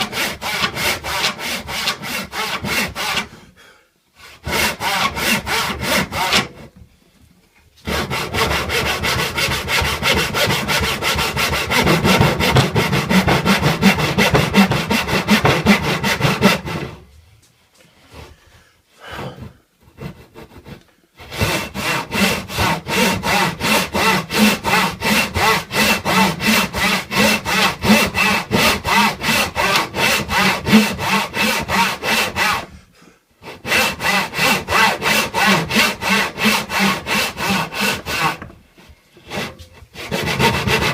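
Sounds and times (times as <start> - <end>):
handsaw cutting wood: 0.0 - 3.4, 4.2 - 6.7, 7.8 - 17.0, 19.4 - 32.8, 33.4 - 40.9.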